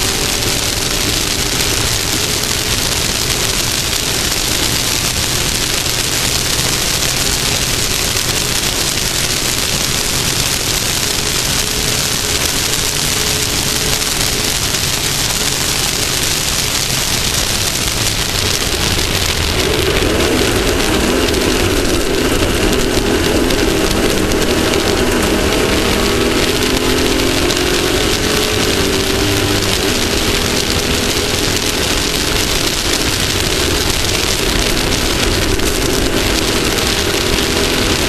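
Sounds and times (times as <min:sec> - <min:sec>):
faint engine: 0:00.0 - 0:38.0
loud rushing noise: 0:00.0 - 0:38.0.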